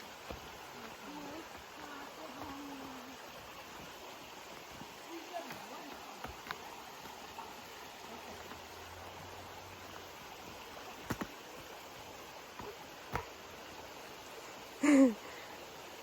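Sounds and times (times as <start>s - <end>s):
flowing stream: 0.0s - 16.0s.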